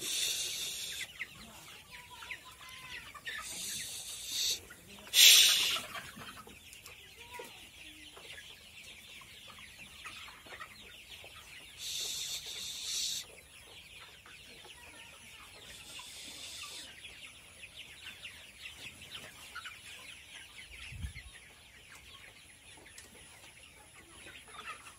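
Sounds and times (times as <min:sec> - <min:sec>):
chickens clucking and cheeping: 0:00.0 - 0:24.9.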